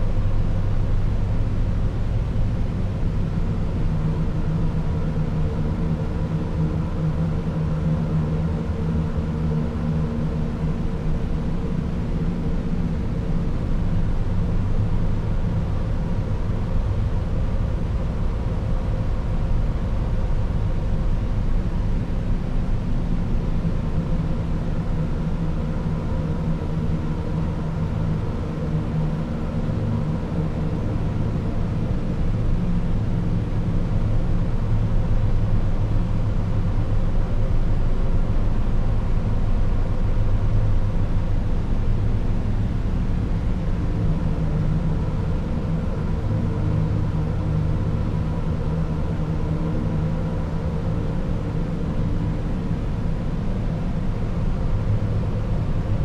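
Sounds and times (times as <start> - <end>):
low dark synthesizer noise wash: 0.0 - 56.0.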